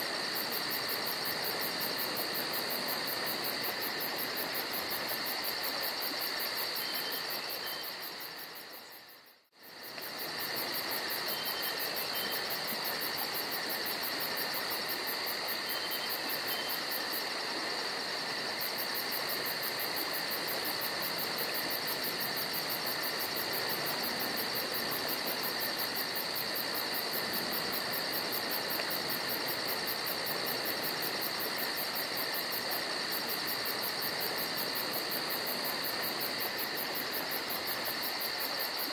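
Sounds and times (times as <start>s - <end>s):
background hiss: 0.0s - 38.9s
insects chirping: 0.0s - 38.9s.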